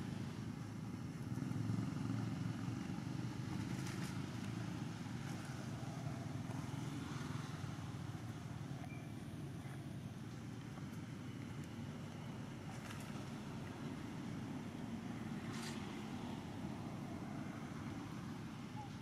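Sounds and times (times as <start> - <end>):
low rumble of background noise: 0.0 - 19.0.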